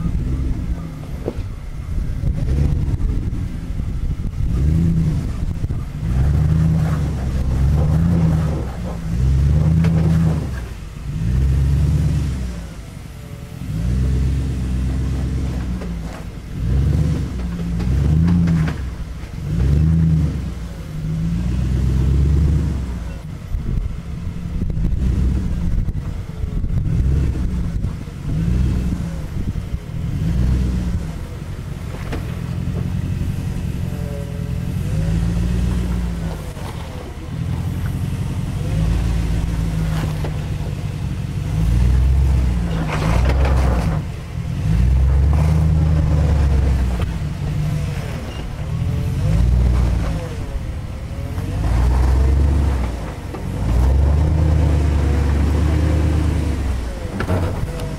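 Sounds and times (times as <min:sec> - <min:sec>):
engine revving under load: 0:00.0 - 0:57.9.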